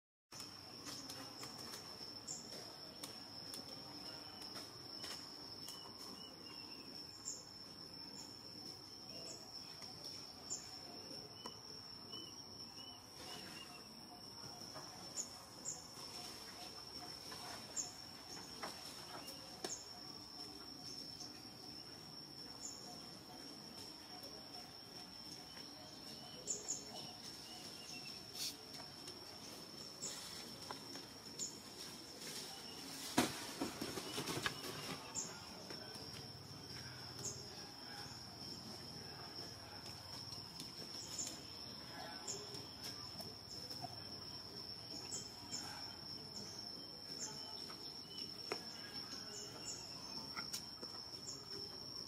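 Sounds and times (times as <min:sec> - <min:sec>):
insects droning: 0:00.3 - 0:52.0.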